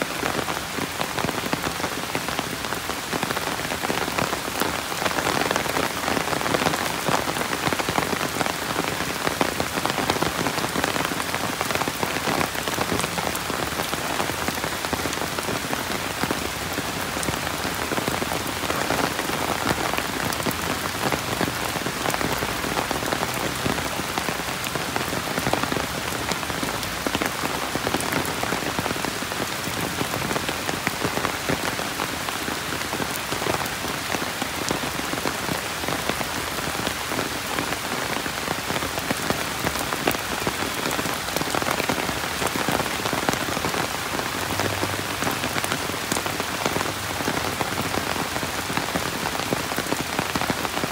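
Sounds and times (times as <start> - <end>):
rain falling steadily: 0.0 - 50.9.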